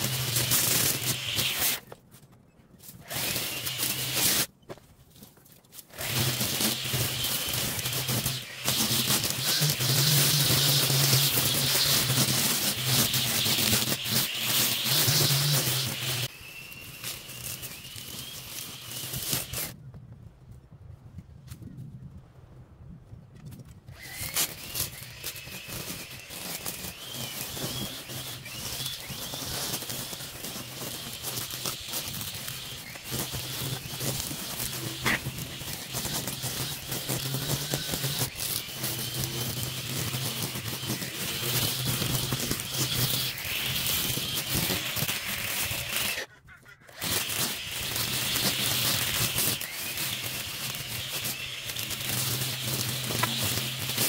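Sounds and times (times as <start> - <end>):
string trimmer cutting grass: 0.0 - 2.0, 2.8 - 4.6, 5.7 - 19.8, 23.9 - 54.0
trimmer line ticking on stems: 5.8 - 19.8, 23.9 - 54.0.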